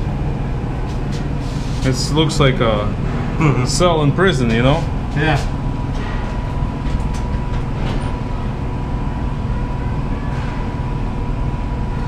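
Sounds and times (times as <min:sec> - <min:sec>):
ventilation machinery rumble: 0:00.0 - 0:12.0.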